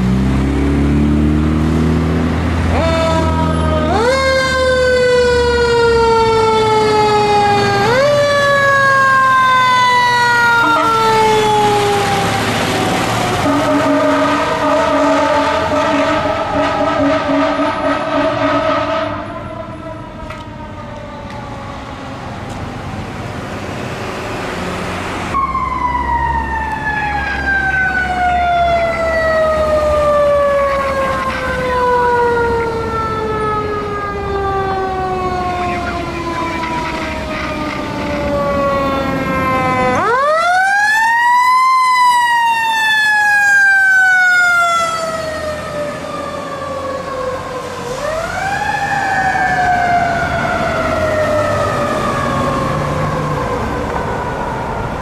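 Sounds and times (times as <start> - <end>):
mechanical siren wailing: 2.6 - 22.4, 25.3 - 55.0.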